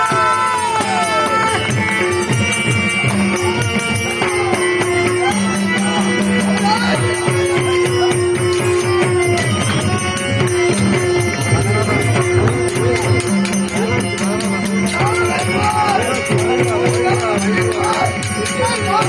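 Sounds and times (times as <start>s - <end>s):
fast jingling percussion: 0.0s - 19.0s
long held accompanying notes: 0.0s - 19.0s.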